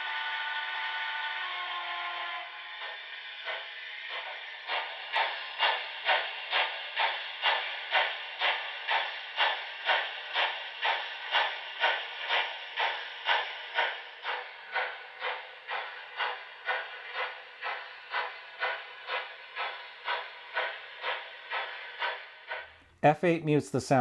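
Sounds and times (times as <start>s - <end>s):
hiss: 0.0s - 22.8s.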